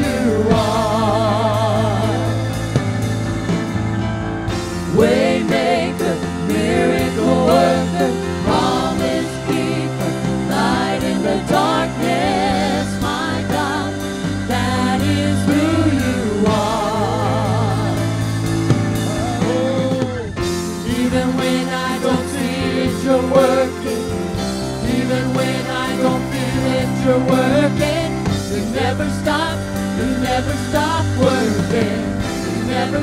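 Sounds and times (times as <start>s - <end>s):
person singing worship music: 0.0s - 33.0s
sustained chords: 0.0s - 33.0s.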